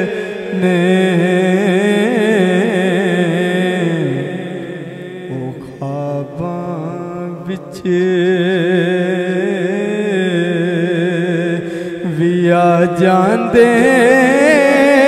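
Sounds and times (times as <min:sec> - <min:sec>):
man singing melismatic notes: 0:00.0 - 0:15.0.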